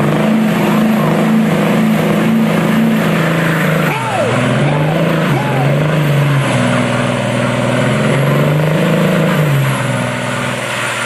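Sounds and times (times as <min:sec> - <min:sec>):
spinning tyres hissing: 0:00.0 - 0:11.0
truck engines revving hard: 0:00.0 - 0:11.0.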